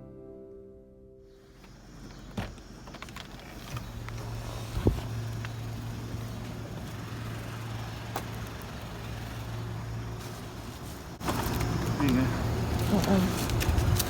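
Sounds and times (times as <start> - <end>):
vehicle engine humming: 1.3 - 14.0.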